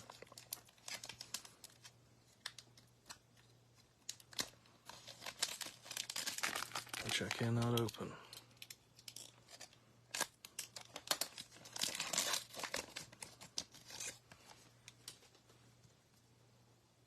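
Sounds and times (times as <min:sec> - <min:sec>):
card pack wrapper crinkling and tearing: 0:00.0 - 0:15.3.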